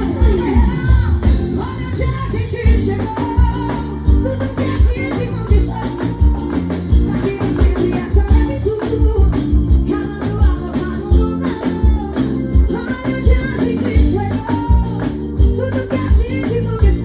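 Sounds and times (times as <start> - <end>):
live band music: 0.0 - 17.0
person singing: 0.0 - 17.0.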